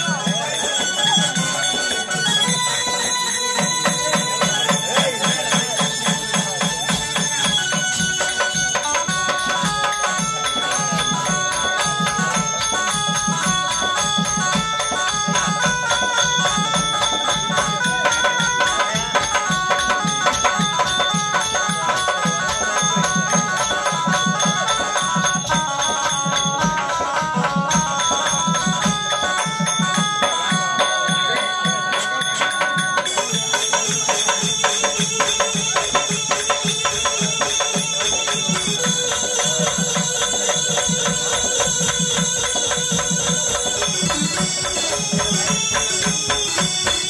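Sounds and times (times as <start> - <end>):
hand drum beat: 0.0 - 47.0
harmonium melody: 0.0 - 47.0
jingling metal percussion: 0.0 - 47.0.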